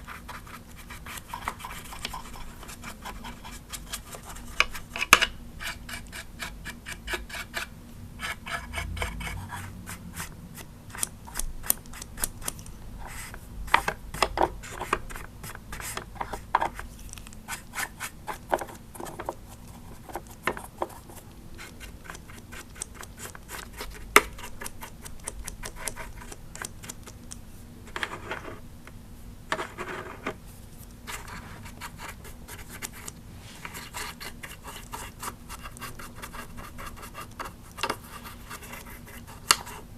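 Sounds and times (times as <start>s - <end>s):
brush scratching plastic: 0.0s - 28.6s, 29.5s - 39.9s.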